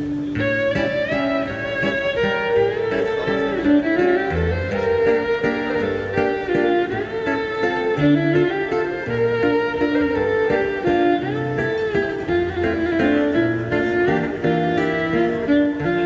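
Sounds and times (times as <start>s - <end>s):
string ensemble music: 0.0s - 16.0s.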